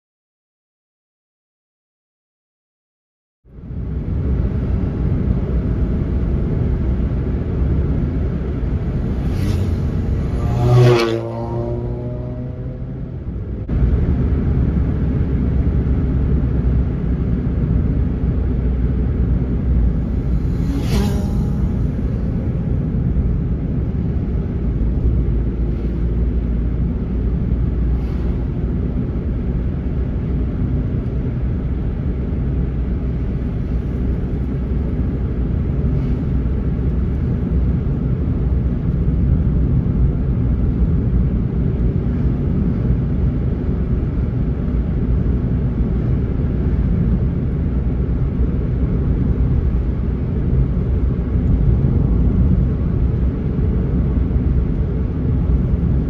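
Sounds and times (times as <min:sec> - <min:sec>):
car cabin road rumble: 0:03.5 - 0:56.0.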